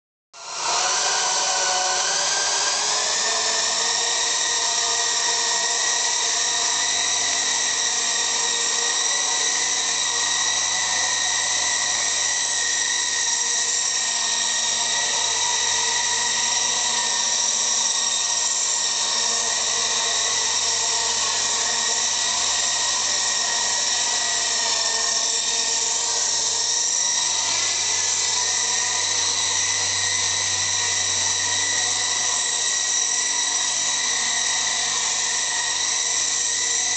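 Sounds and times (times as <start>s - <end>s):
toy helicopter motor whine: 0.4s - 36.9s.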